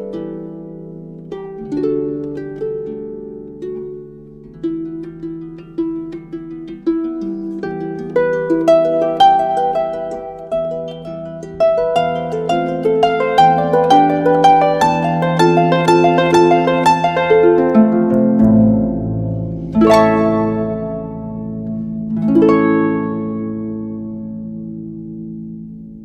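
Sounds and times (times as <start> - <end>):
plucked instrumental music: 0.0 - 26.0.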